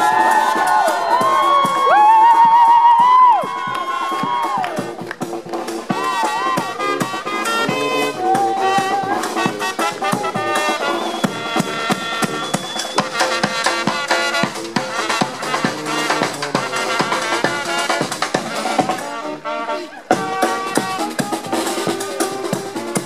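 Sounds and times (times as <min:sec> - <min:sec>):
steady drum beat: 0:00.0 - 0:19.2, 0:20.1 - 0:23.0
brass band with sousaphone: 0:00.0 - 0:23.0.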